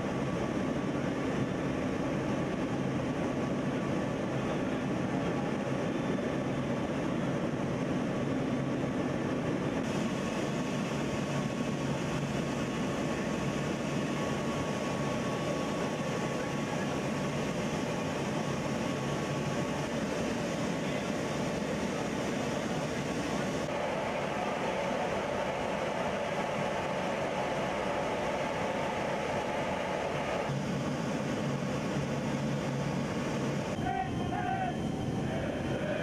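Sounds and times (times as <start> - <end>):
transport plane drone: 0.0 - 36.0.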